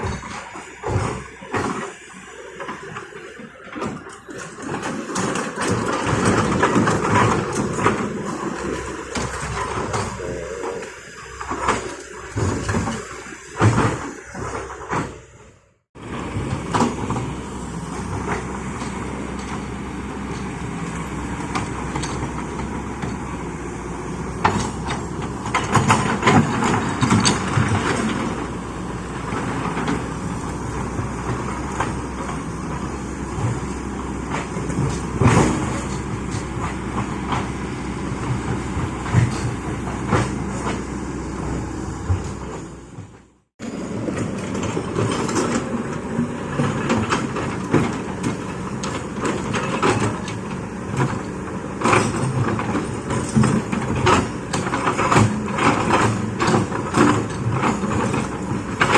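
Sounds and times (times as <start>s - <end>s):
excavator engine running: 0.0s - 58.9s.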